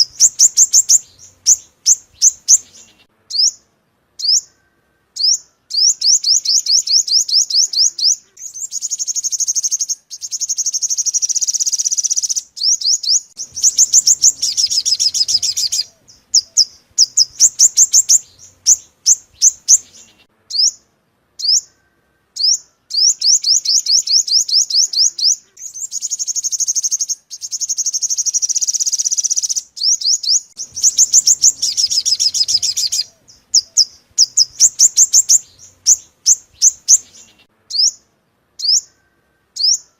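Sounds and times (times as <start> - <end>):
bird buzzy trills: 0.0 - 39.9
bird high chirps: 0.0 - 39.9.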